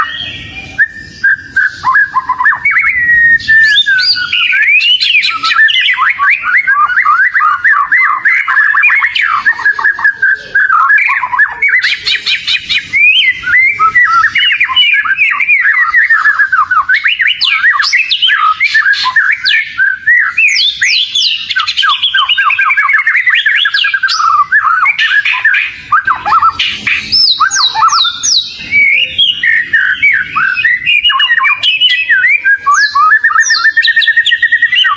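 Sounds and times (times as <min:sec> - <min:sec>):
bird singing whistled notes: 0:00.0 - 0:34.9.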